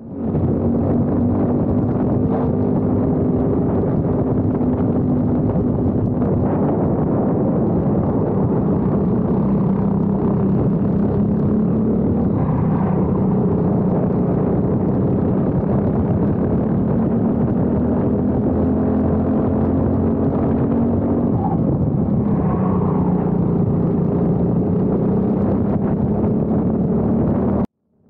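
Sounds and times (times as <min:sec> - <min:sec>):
kart engine running hard: 0:00.2 - 0:27.6.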